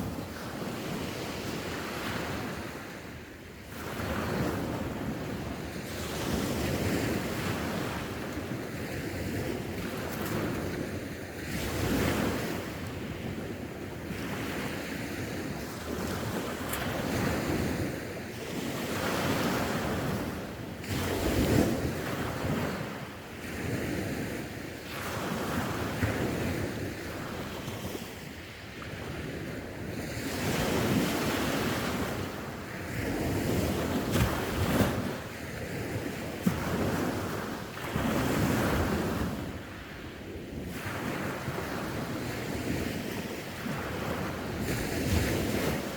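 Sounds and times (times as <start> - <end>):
sea waves breaking on shore: 0.0 - 45.9
wind buffeting microphone: 0.0 - 45.9.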